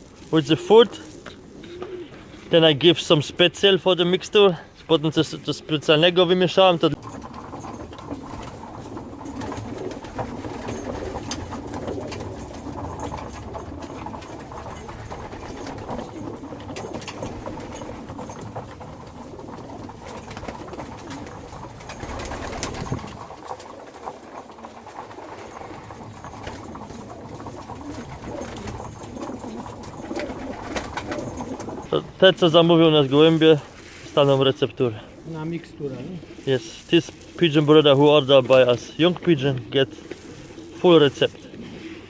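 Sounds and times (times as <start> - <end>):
pigeons cooing: 0.0 - 3.2, 4.6 - 42.0.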